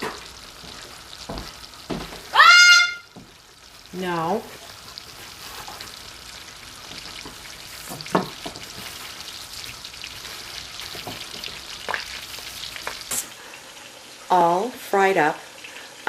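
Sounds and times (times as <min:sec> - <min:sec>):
chicken sizzling in a skillet: 0:00.0 - 0:16.0.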